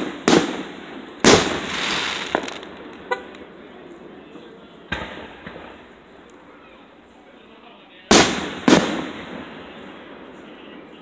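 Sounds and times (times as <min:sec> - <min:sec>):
fireworks bursting: 0:00.0 - 0:06.6, 0:08.1 - 0:11.0.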